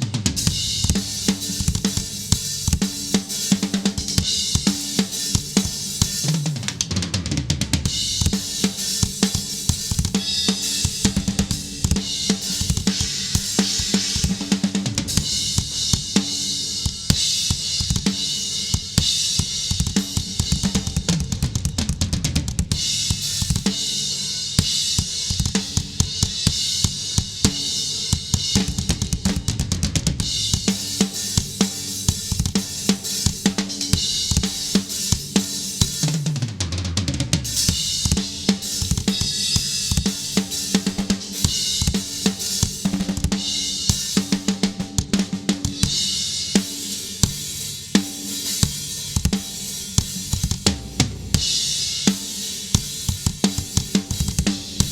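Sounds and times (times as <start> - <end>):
drum kit groove: 0.0 - 54.9.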